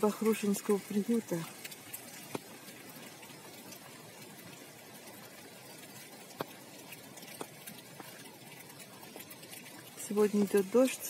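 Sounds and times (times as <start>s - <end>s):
sharp taps of raindrops: 0.0s - 11.0s
steady rain hiss: 0.0s - 11.0s.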